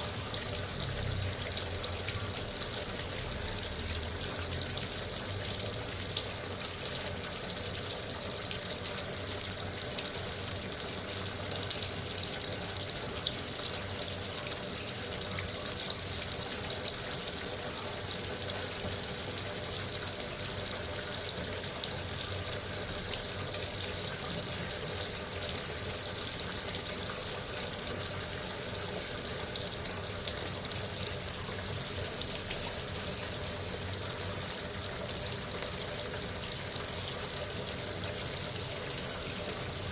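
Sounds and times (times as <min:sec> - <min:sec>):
water filling washing machine: 0:00.0 - 0:39.9.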